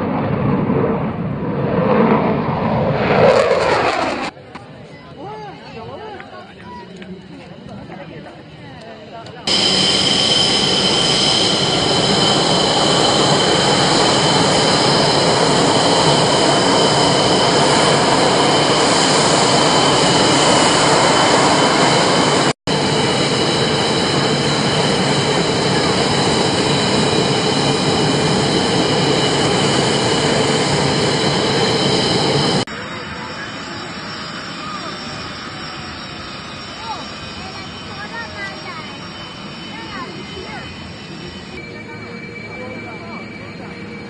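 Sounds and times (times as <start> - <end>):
aircraft turbine engine running: 0.0 - 44.0.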